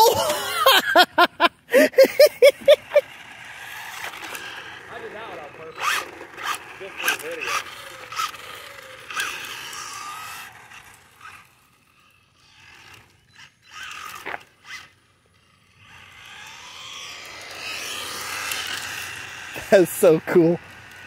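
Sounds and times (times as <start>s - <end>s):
electric motor whine: 1.7s - 21.0s.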